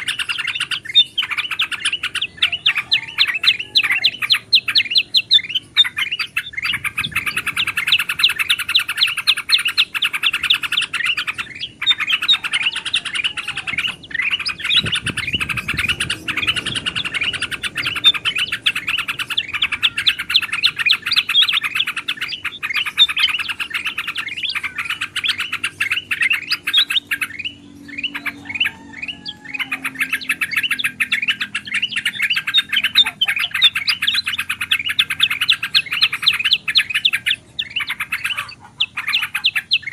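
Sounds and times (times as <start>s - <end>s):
bulbuls chattering chirps: 0.0s - 39.9s.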